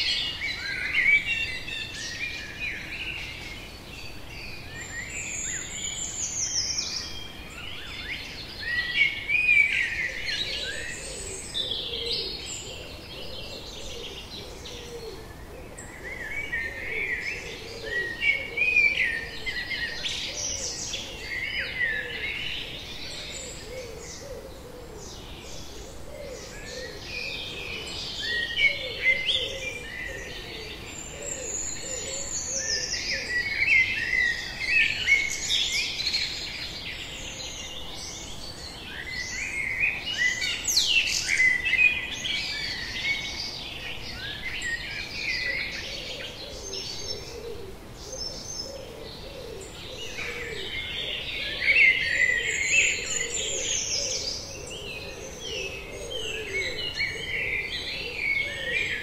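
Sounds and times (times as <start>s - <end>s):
songbirds chorus: 0.0s - 59.0s.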